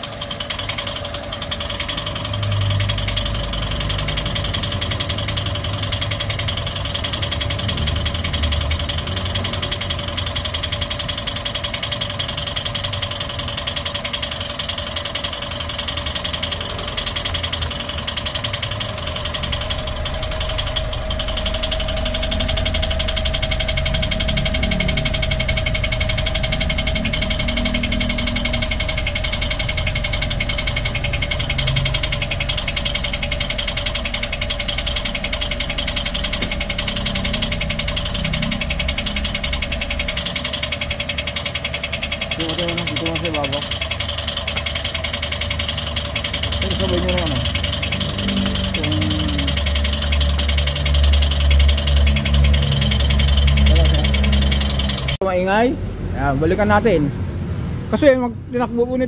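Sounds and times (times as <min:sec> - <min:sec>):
car engine idling: 0:00.0 - 0:59.0
engine whine: 0:00.0 - 0:59.0.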